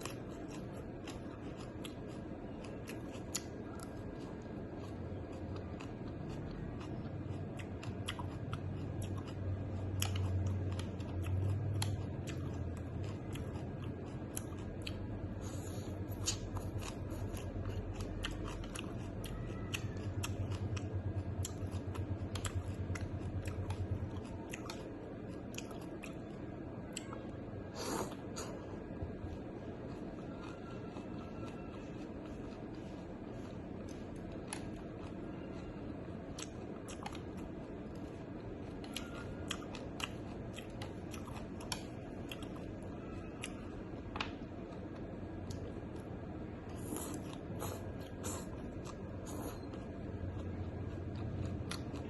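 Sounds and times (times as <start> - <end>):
person chewing crunchy food: 0.0 - 52.0.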